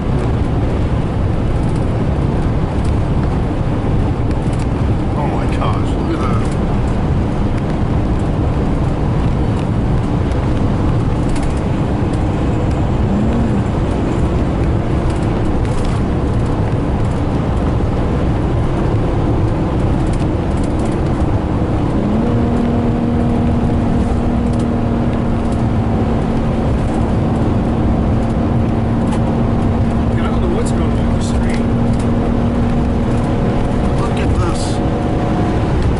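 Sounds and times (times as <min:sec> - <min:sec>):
engine hum: 0:00.0 - 0:35.9
road and wind noise: 0:00.0 - 0:35.9.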